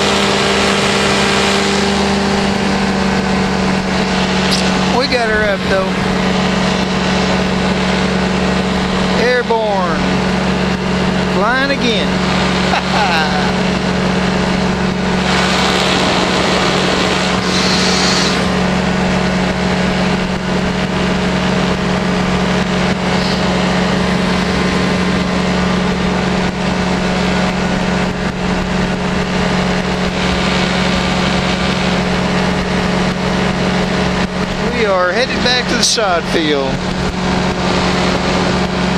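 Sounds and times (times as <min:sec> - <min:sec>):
engine and propeller drone: 0:00.0 - 0:38.9.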